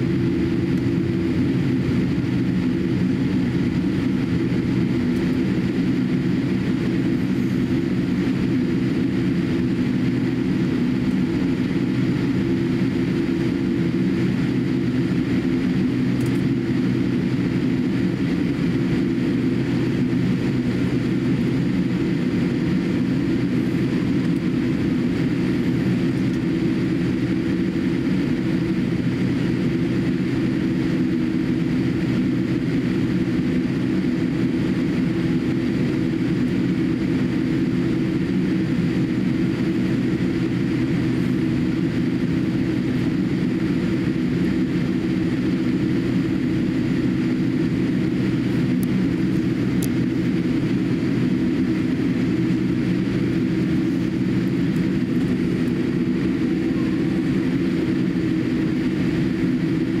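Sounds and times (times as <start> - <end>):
airliner cabin hum: 0.0 - 60.0.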